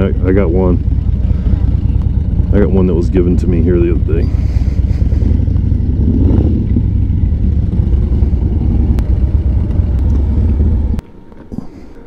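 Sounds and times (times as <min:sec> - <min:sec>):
motorcycle engine idling: 0:00.0 - 0:11.0
other motorcycles idling: 0:00.0 - 0:11.0.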